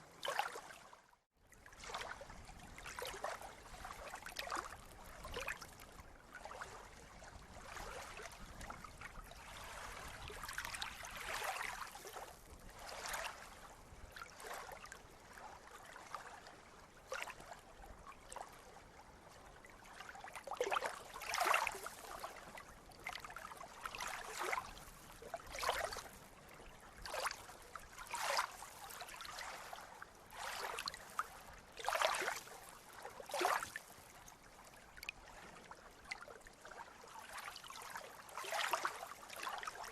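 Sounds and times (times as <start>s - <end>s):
small sea waves lapping: 0.0s - 39.9s.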